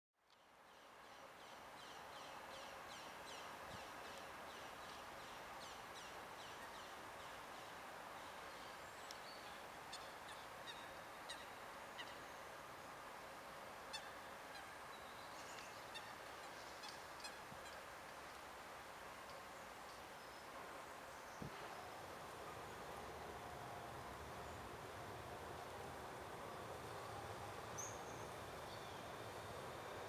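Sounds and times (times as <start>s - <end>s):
faint outdoor background hiss: 0.2s - 30.0s.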